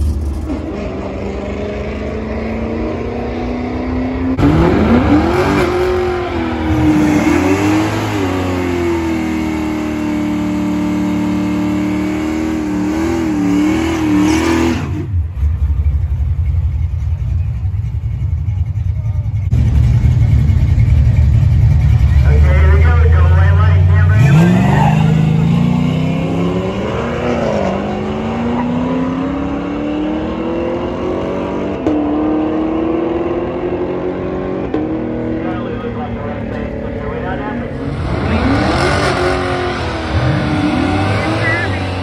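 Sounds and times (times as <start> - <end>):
car engine revving: 0.0 - 16.2, 18.6 - 42.0.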